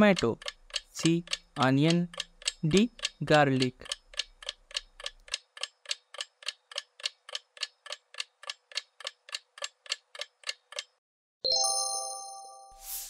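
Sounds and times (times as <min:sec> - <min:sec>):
clock ticking: 0:00.0 - 0:11.0.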